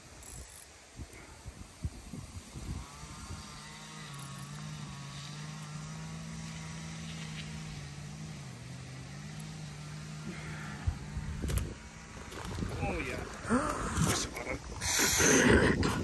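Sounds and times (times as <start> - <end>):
engine drone with low hum: 0.0 - 16.0.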